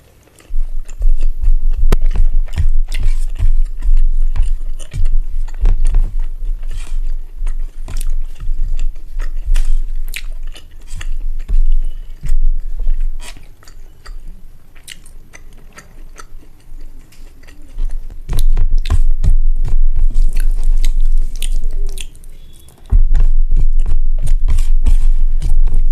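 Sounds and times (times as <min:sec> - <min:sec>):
close chewing with wet smacks: 0:00.0 - 0:25.9.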